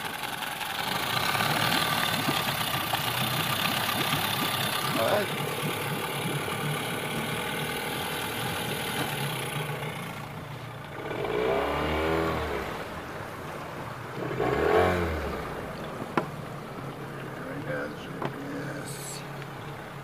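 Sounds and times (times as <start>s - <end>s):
outboard motor revving: 0.0s - 20.0s.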